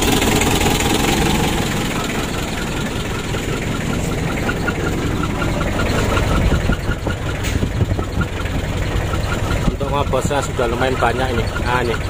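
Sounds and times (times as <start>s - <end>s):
diesel engine idling rough: 0.0s - 12.0s
regular ticking engine knock: 0.0s - 12.0s.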